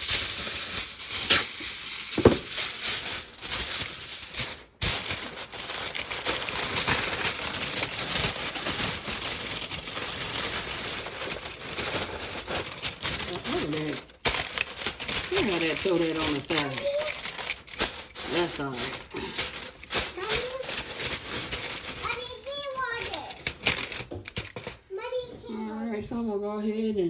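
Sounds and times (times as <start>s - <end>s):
aluminium foil crinkling: 0.0s - 24.8s.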